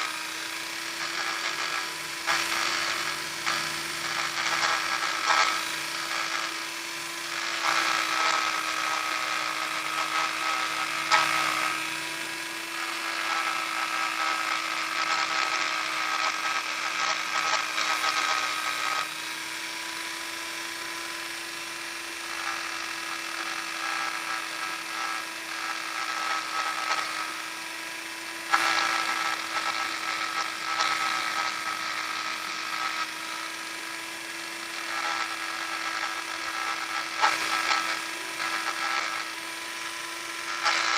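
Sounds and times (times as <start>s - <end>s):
electric sander running: 0.0s - 40.9s.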